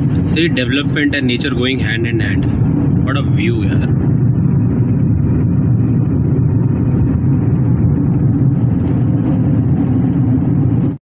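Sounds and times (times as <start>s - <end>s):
engine and road rumble inside car: 0.0s - 11.0s.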